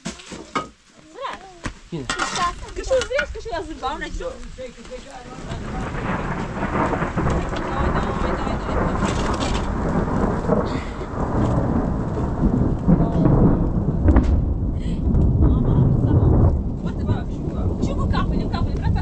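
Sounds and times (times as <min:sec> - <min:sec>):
heavy rain pouring: 0:01.0 - 0:19.0
thunder rumbling: 0:02.2 - 0:19.0.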